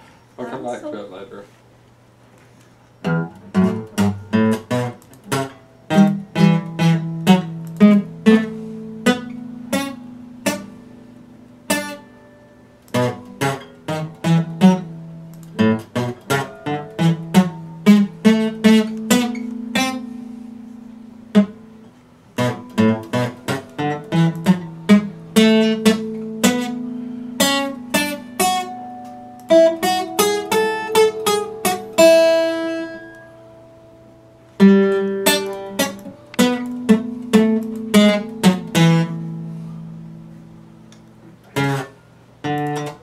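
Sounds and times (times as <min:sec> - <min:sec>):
acoustic guitar strummed: 0:03.0 - 0:43.0.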